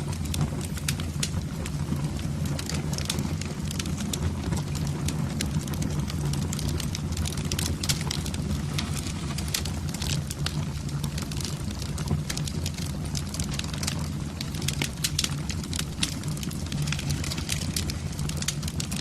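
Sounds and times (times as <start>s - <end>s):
low roar of fire: 0.0s - 19.0s
wood fire crackling and popping: 0.0s - 19.0s.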